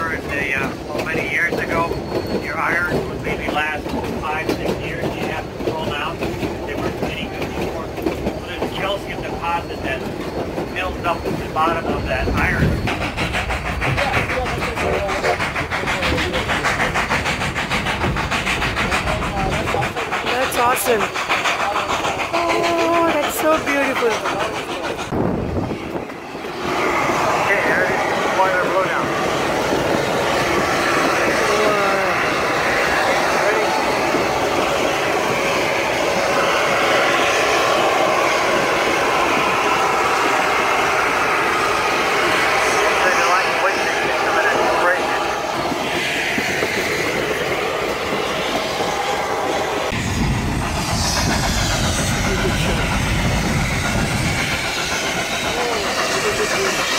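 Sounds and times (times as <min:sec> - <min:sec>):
steam train running on rails: 0:00.0 - 0:56.9.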